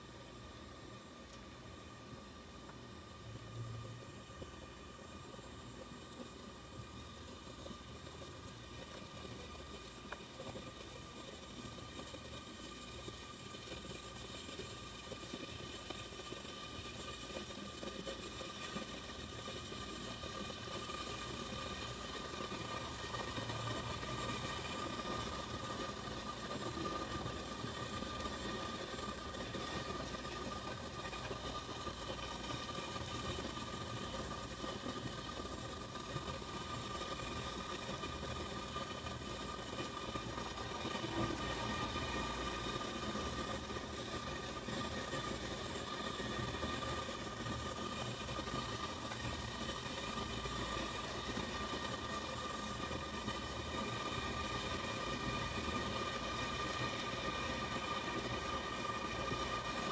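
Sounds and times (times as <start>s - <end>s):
steady hum with held tones: 0.0s - 59.9s.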